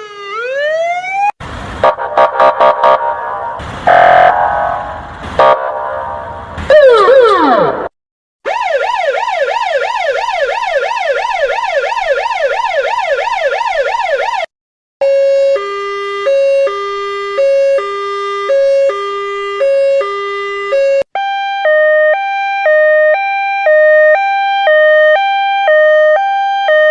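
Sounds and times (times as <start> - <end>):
electronic yelp siren: 0.0 - 26.9
higher two-tone siren: 0.0 - 26.9
low two-tone siren: 0.0 - 26.9
siren wail: 0.0 - 26.9.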